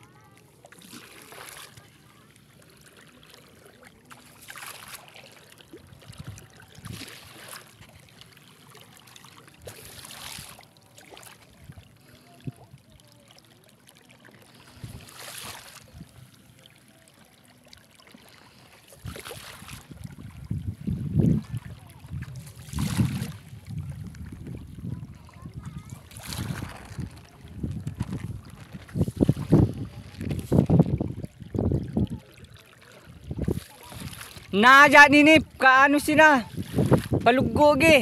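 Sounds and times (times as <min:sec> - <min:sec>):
seawater sloshing and splashing: 0:00.0 - 0:38.0.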